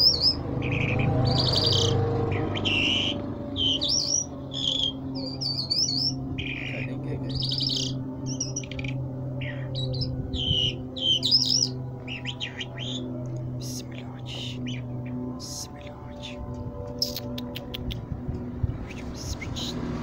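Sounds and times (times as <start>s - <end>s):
songbird singing: 0.0s - 20.0s
steady low hum: 0.0s - 20.0s.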